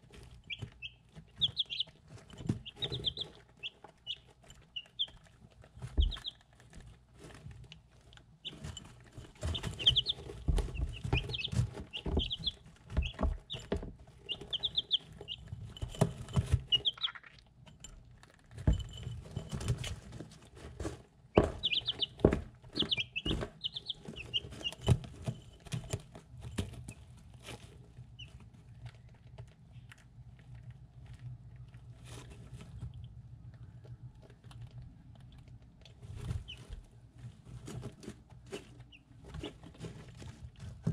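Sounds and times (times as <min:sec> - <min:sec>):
chicks peeping: 0:00.0 - 0:17.5, 0:20.6 - 0:30.6, 0:31.6 - 0:40.9.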